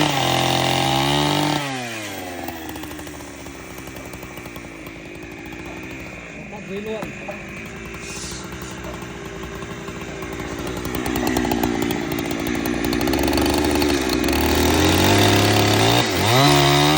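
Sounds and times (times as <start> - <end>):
chainsaw engine running: 0.0 - 16.9.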